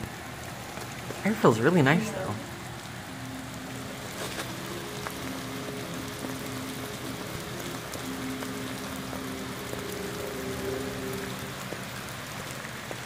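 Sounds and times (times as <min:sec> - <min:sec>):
faint music: 0:00.0 - 0:13.0
heavy rain on pavement: 0:00.0 - 0:13.0.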